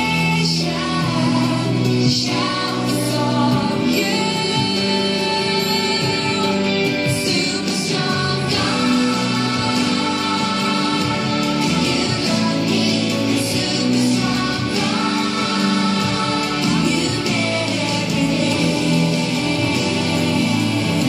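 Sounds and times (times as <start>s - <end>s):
song with sung vocals: 0.0s - 21.0s.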